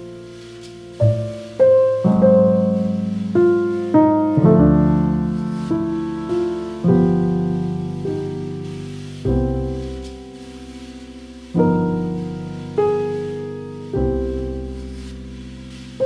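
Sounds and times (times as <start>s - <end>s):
slow piano notes: 0.0s - 16.0s.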